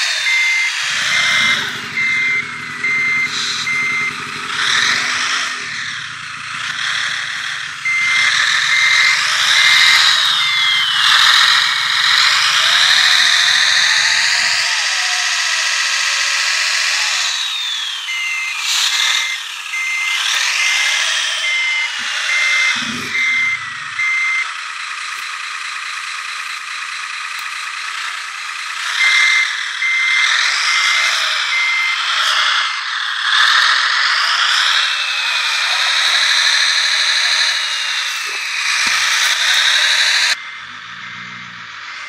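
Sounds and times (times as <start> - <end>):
reversing beeper: 0.0 - 15.0, 15.9 - 42.0
electric motors whining: 0.0 - 42.0.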